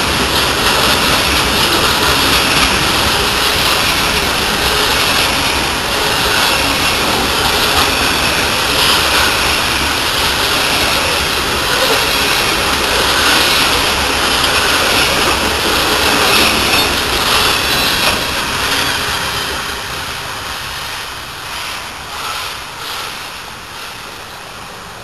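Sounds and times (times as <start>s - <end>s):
wheel clacks: 0.0s - 24.0s
freight train rolling past: 0.0s - 25.0s.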